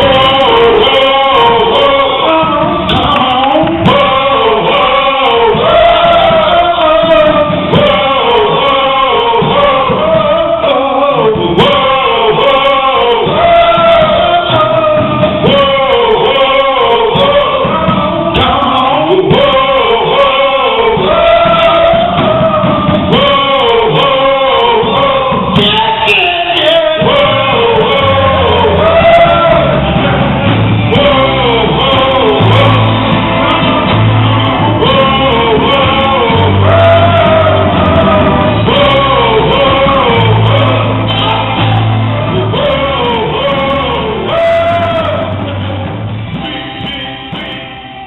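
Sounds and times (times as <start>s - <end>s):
band playing: 0.0s - 48.0s
male vocal group singing: 0.0s - 48.0s.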